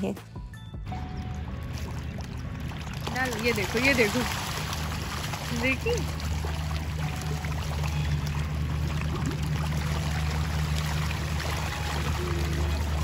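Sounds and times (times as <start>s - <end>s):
fish thrashing and splashing water: 1.0s - 13.0s.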